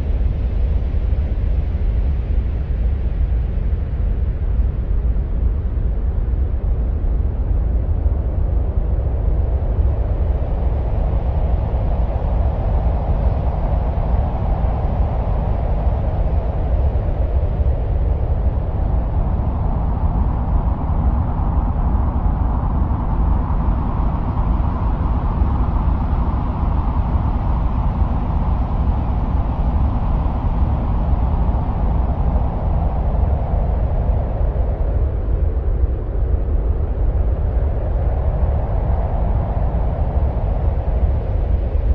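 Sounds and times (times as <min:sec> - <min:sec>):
deep wind-like rumble: 0:00.0 - 0:41.9.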